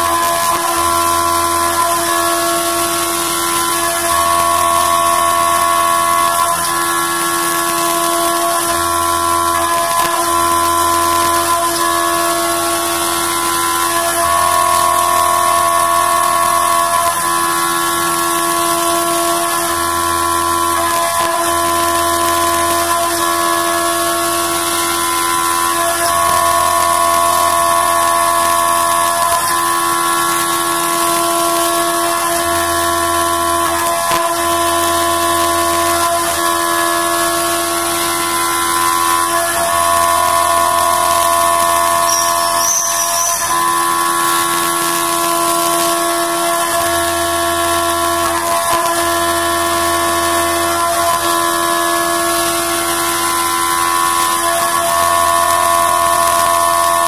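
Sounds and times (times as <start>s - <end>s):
milling machine cutter whine: 0.0s - 57.0s.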